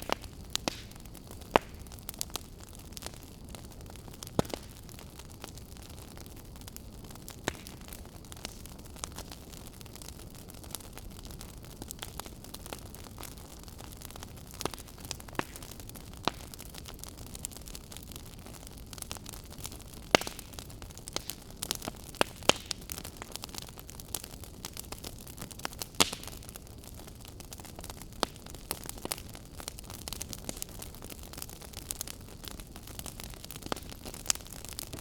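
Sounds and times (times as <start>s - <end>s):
fire crackling in fireplace: 0.0s - 35.0s.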